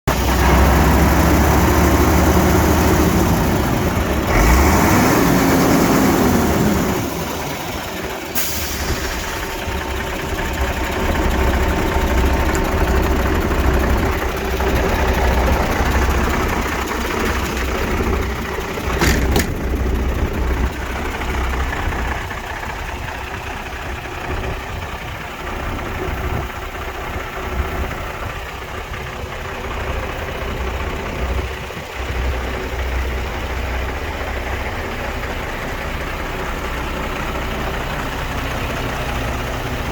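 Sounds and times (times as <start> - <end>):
diesel truck engine idling: 0.1 - 39.9.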